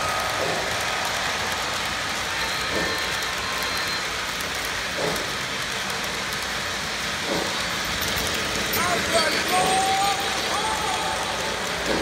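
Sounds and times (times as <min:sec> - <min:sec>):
model train rolling rumble: 0:00.0 - 0:12.0.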